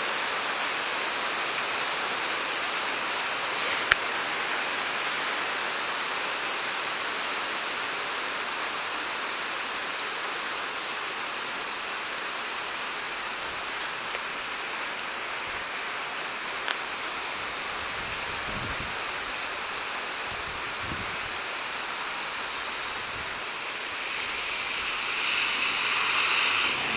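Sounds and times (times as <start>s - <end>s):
heavy rain on pavement: 0.0s - 26.9s.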